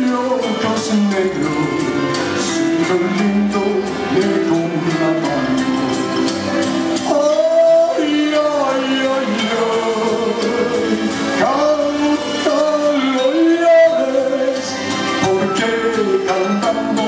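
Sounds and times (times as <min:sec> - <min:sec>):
acoustic guitars: 0:00.0 - 0:17.0
man singing into a microphone: 0:00.0 - 0:17.0.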